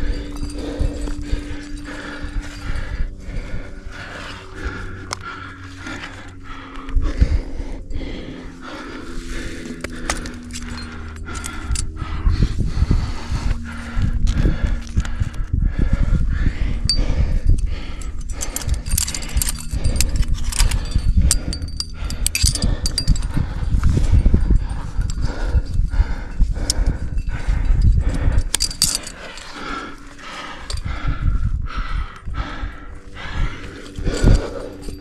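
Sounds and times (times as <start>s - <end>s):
metal climbing gear clinking: 0.0s - 12.4s, 16.8s - 35.0s
person breathing hard: 0.0s - 35.0s
wind rumble on microphone: 0.0s - 35.0s.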